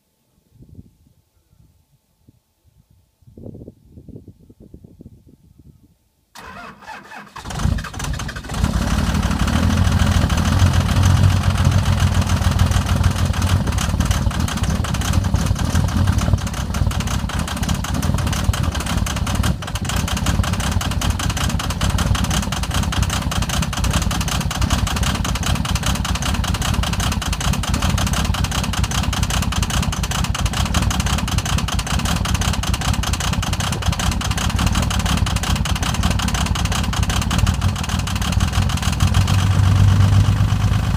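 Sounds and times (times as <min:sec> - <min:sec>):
diesel engine starting and clattering: 0:06.4 - 0:40.9.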